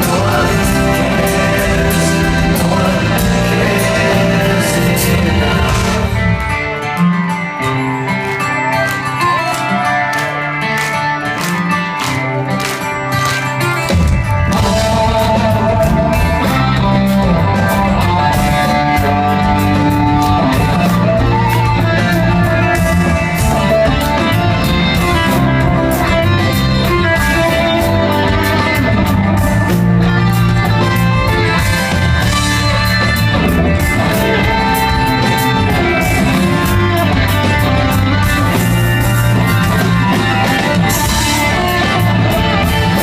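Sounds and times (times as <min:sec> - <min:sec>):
bass and drums: 0:00.0 - 0:06.8, 0:13.7 - 0:43.0
live rock band playing: 0:00.0 - 0:43.0.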